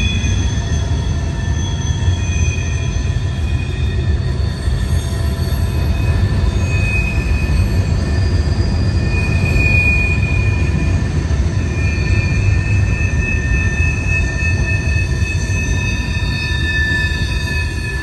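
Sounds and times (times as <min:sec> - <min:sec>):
train wheels rumbling on rail: 0:00.0 - 0:18.0
wheel flanges squealing: 0:00.0 - 0:18.0.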